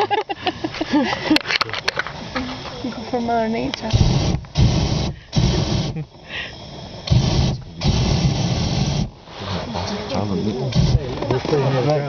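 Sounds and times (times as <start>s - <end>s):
propane burner blasts: 0.0s - 12.0s.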